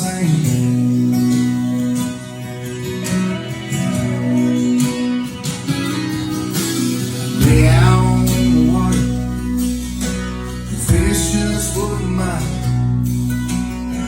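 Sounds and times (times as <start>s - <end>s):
bass: 0.0s - 14.0s
guitar background music: 0.0s - 14.0s.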